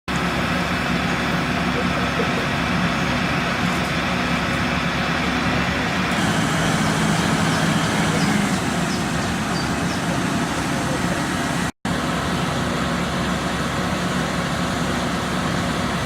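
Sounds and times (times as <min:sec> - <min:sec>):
vehicle engine humming: 0:00.1 - 0:16.0.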